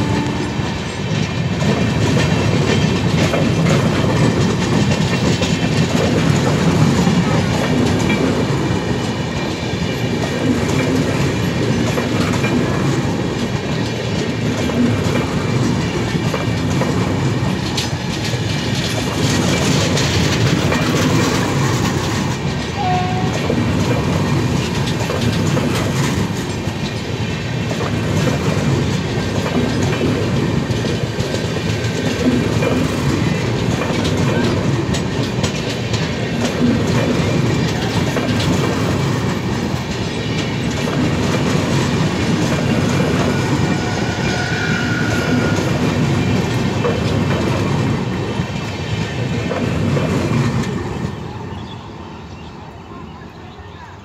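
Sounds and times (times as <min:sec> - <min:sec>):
rhythmic clickety-clack: 0:00.0 - 0:51.2
train wheels rushing on rails: 0:00.0 - 0:54.0.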